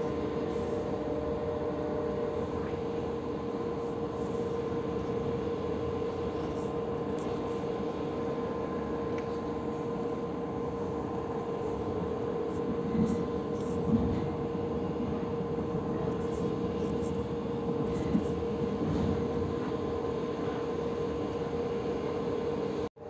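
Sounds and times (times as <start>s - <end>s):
train rumbling inside carriage: 0.0s - 22.9s.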